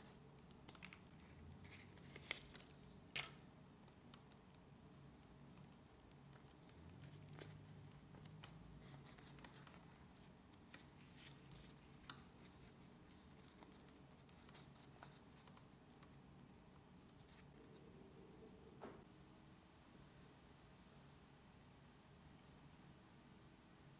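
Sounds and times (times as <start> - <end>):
faint low hum: 0.0 - 23.9.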